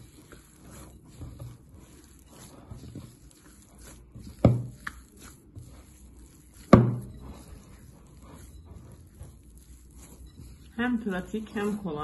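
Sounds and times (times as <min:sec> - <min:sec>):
hands kneading dough: 0:00.0 - 0:12.0.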